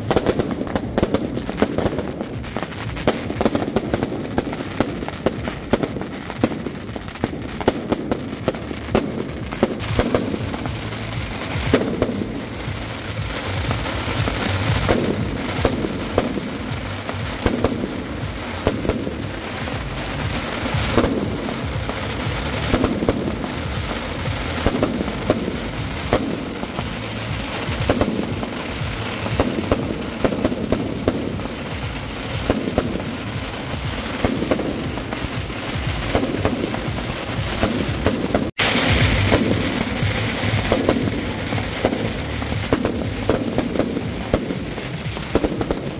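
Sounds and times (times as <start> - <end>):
fireworks crackling and hissing: 0.0 - 45.9
fireworks popping and banging: 0.0 - 45.9.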